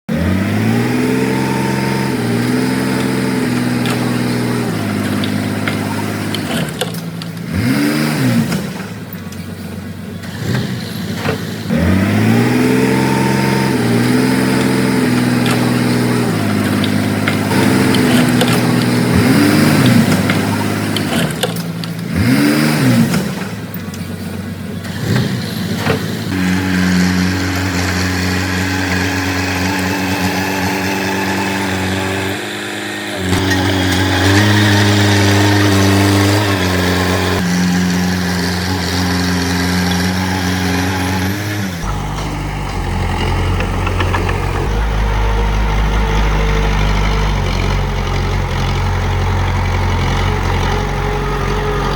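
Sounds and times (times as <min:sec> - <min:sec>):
bulldozer diesel engine revving: 0:00.0 - 0:51.9.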